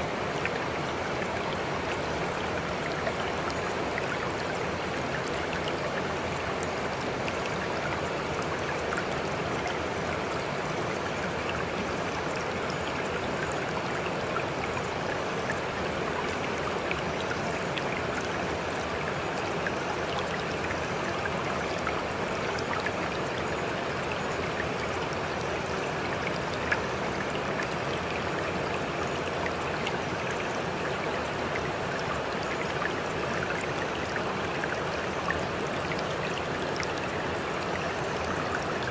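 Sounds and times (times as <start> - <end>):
babbling stream: 0.0 - 38.9.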